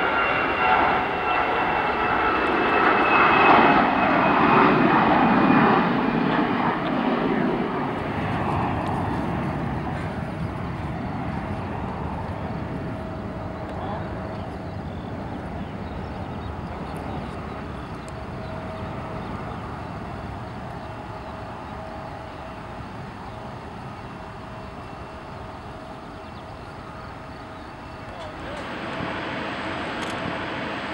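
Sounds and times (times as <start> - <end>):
distant jet engines rumbling: 0.0 - 30.9
thin steady whine: 0.0 - 30.9.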